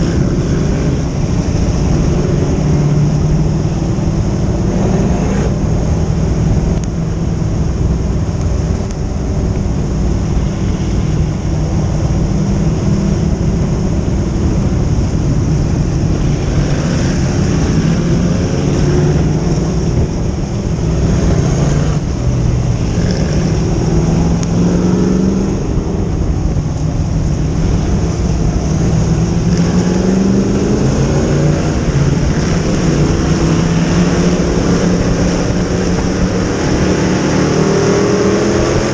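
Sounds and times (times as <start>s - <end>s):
race car engines running hard: 0.0s - 38.9s
steady rumble: 0.0s - 38.9s.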